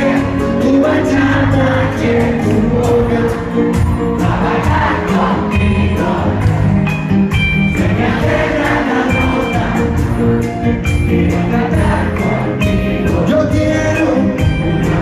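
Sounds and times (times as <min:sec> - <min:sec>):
congas: 0:00.0 - 0:15.0
latin dance band playing live: 0:00.0 - 0:15.0.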